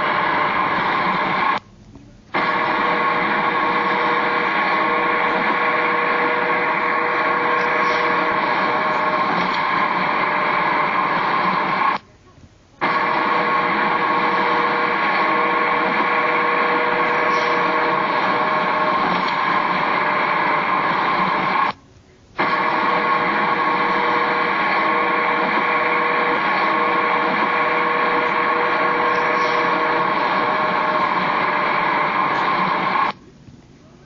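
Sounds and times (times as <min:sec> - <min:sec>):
tyres droning on bridge deck: 0:02.3 - 0:12.0, 0:12.8 - 0:21.7, 0:22.4 - 0:33.2.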